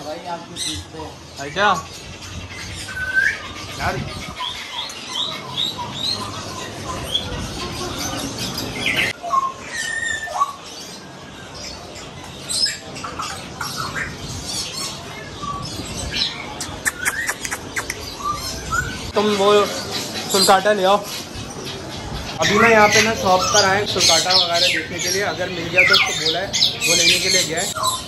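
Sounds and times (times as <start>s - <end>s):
caged birds chirping and squawking: 0.0s - 28.0s.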